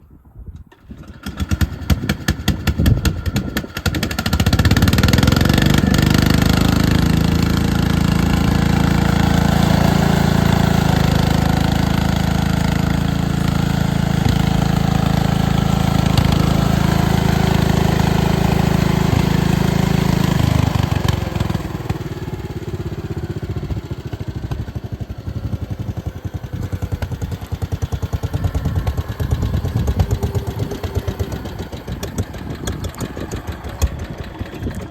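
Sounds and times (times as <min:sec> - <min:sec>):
lawn tractor engine: 0:00.7 - 0:34.9.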